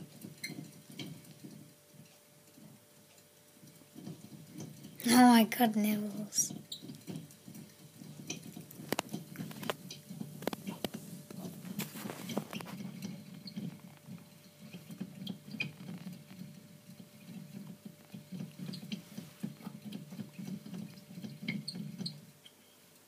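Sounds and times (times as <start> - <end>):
hamster running in plastic wheel: 0.0 - 22.5.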